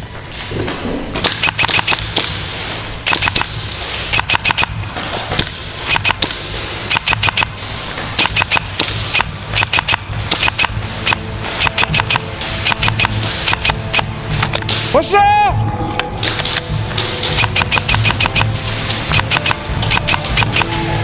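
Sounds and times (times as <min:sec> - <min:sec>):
airsoft rifles firing bursts: 0:01.2 - 0:15.0, 0:16.2 - 0:21.0.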